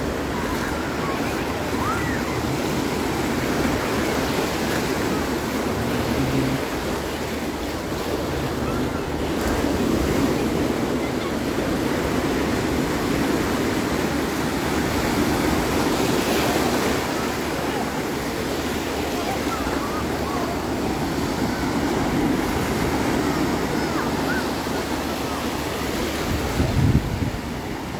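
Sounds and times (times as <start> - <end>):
sea waves washing ashore: 0.0 - 27.9.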